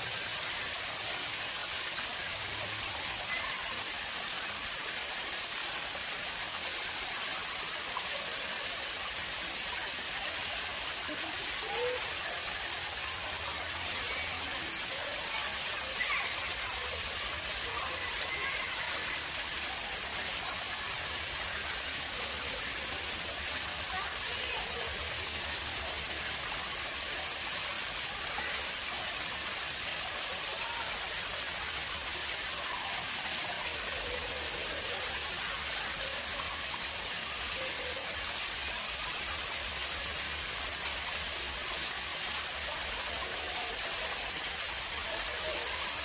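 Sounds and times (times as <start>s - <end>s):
water flowing into pond: 0.0s - 46.0s.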